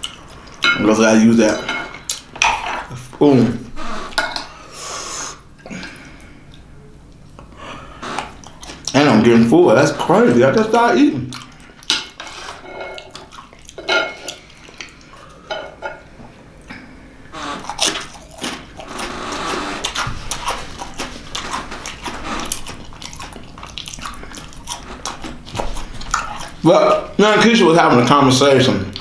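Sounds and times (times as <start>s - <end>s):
man chewing food: 0.0s - 0.6s, 2.0s - 3.1s, 3.8s - 10.2s, 11.2s - 27.2s.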